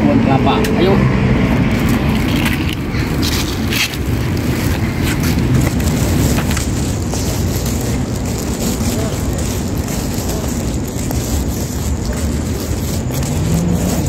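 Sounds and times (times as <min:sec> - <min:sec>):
footsteps crunching on dry ground: 0:01.5 - 0:14.0.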